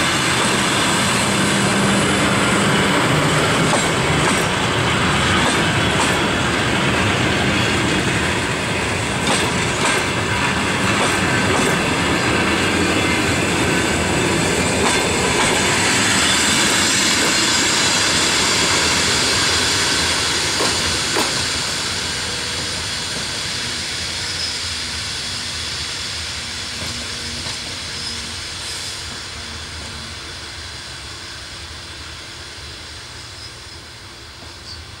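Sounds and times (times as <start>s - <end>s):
train wheels clicking over rail joints: 0.0s - 30.5s.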